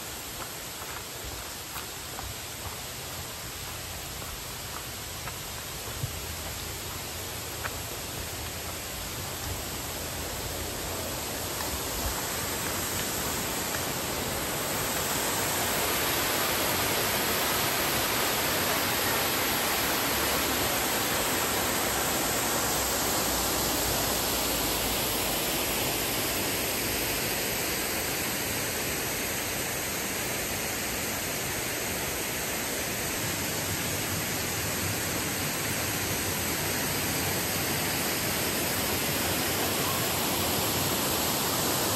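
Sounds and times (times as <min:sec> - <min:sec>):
waterfall rushing: 0:00.0 - 0:28.7, 0:29.4 - 0:41.9.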